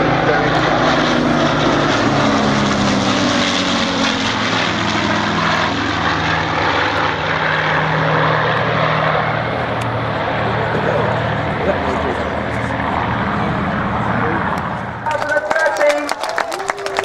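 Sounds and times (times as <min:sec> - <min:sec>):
propeller aircraft drone: 0:00.0 - 0:17.0.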